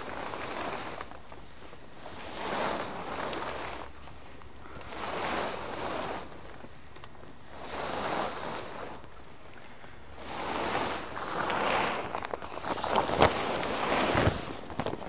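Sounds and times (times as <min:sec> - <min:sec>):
tarp sliding over metal frame: 0:00.0 - 0:09.4, 0:10.0 - 0:14.8
fabric crackling and flapping: 0:00.0 - 0:15.0.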